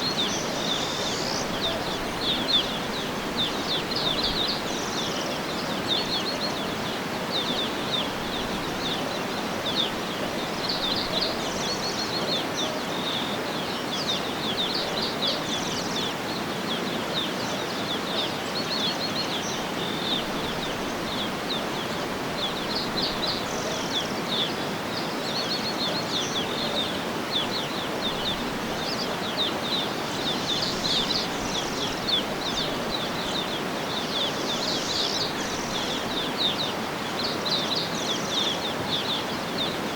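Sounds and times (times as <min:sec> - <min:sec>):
birds chirping: 0:00.0 - 0:39.9
outdoor ambience hiss: 0:00.0 - 0:39.9.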